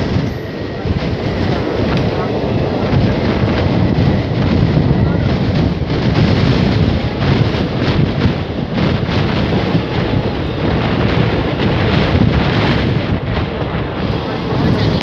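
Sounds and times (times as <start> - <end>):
train running noise: 0.0 - 15.0
wind buffeting microphone: 0.0 - 15.0.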